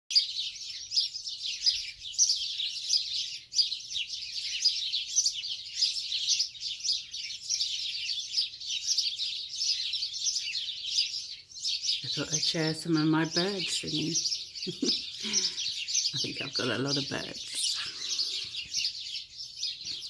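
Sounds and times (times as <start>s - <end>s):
chorus of small birds chirping: 0.1s - 20.0s.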